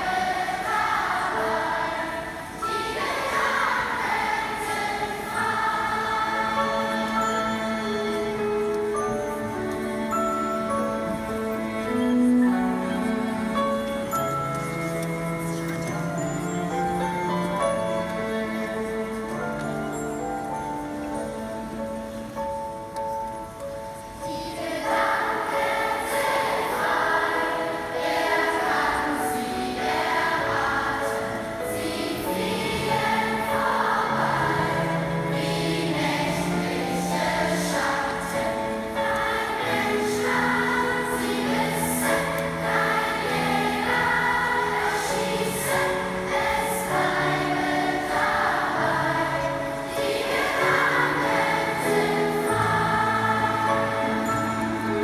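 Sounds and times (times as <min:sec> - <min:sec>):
choir singing held notes: 0:00.0 - 0:23.2, 0:23.9 - 0:55.0.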